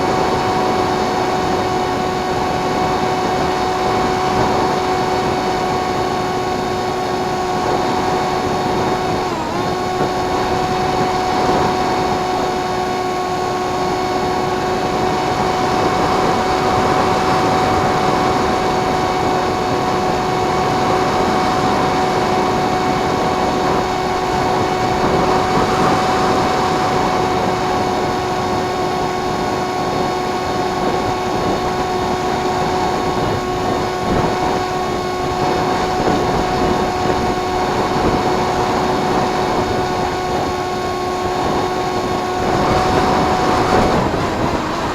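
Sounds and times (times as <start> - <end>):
model plane motor and propeller: 0.0 - 44.9
wind noise: 0.0 - 44.9.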